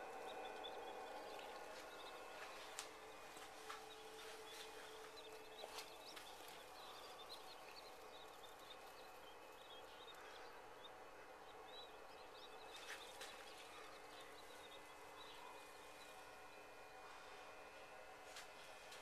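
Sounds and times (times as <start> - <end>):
quail chicks peeping: 0.0 - 17.3.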